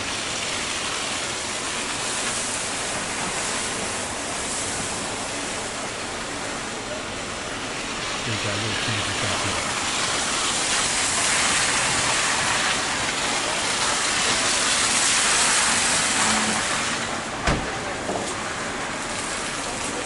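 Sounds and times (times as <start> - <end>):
wet street noise: 0.0 - 20.0.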